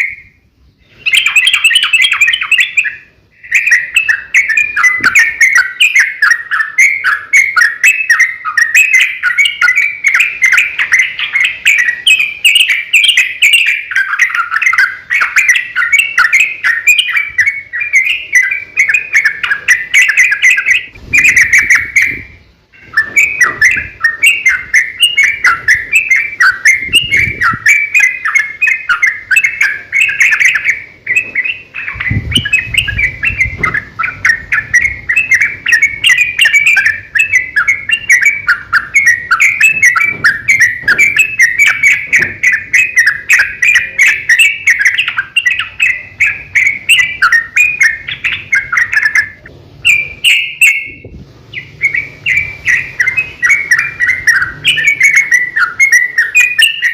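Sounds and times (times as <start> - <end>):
bird singing chattering phrases: 0.0 - 56.9.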